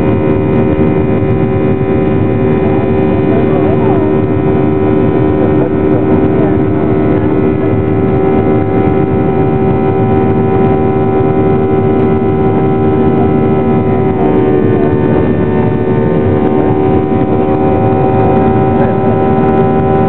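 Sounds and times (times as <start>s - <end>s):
jet engine drone in cabin: 0.0s - 20.0s.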